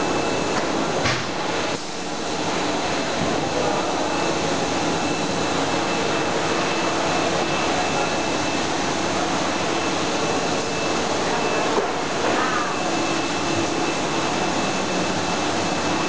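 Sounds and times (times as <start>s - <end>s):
machinery hum and hiss: 0.0s - 16.0s.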